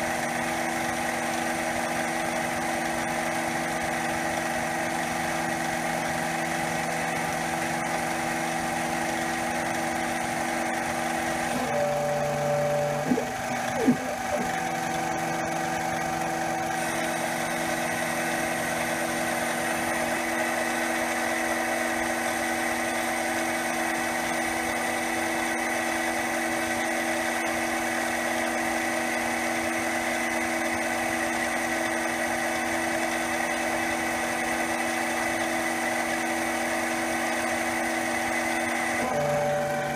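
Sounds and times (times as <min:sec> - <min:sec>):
lathe machining whine: 0:00.0 - 0:39.9.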